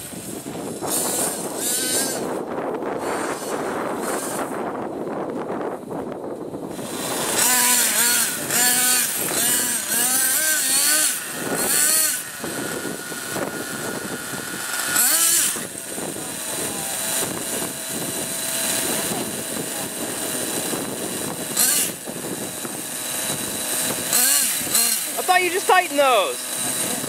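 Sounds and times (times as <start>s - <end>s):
rc truck engine revving: 0.0s - 4.9s, 6.6s - 27.0s.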